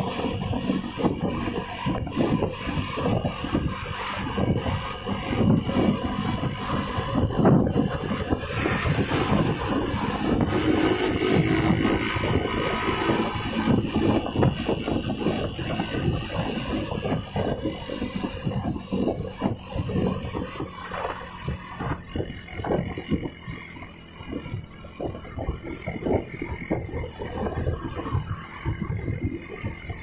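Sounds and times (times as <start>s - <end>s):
diesel bus engine rough drone: 0.0s - 30.0s.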